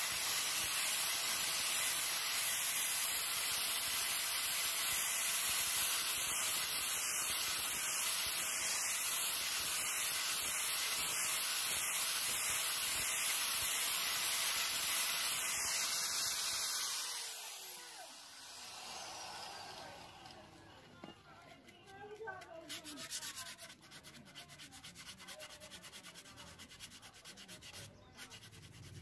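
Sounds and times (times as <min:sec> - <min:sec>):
angle grinder sanding wood: 0:00.0 - 0:20.5, 0:21.4 - 0:29.0.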